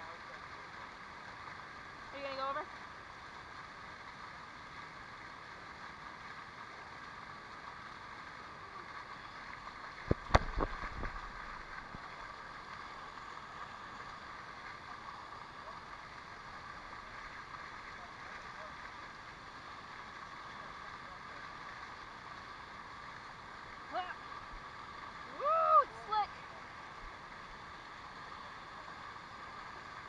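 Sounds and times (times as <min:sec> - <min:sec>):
water running down waterfall: 0:00.0 - 0:30.0.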